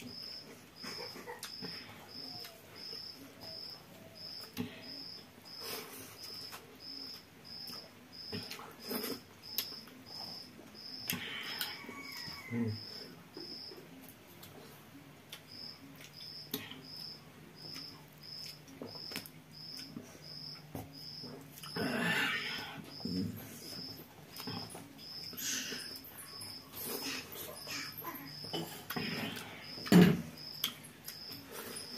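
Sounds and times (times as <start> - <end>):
cricket chirping: 0.0 - 13.8, 15.5 - 31.9.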